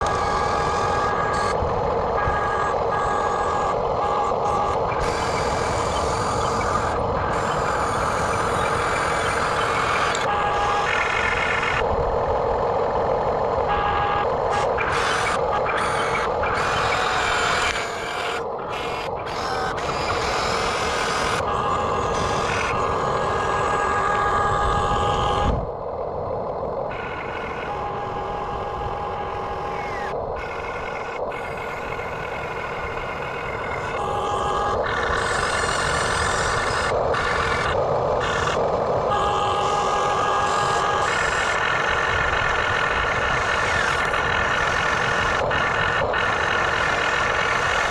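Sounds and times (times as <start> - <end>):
remote-control excavator whirring: 0.0 - 47.9.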